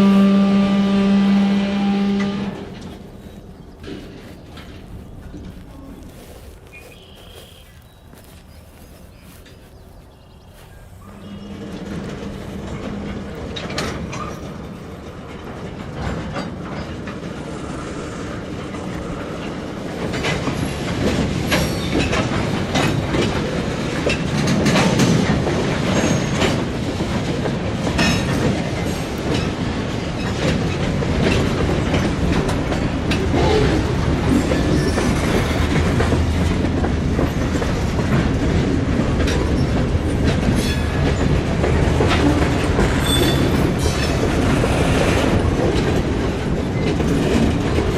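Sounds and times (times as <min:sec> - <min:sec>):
low train rumble: 0:00.0 - 0:47.9
train wheels clickety-clack: 0:01.9 - 0:47.9.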